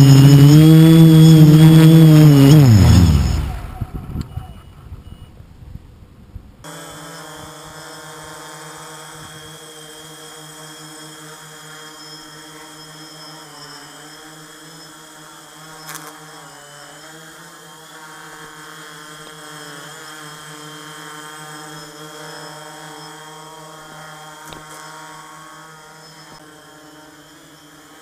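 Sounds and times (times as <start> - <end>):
quadcopter rotors humming: 0.0 - 5.5, 6.6 - 28.0.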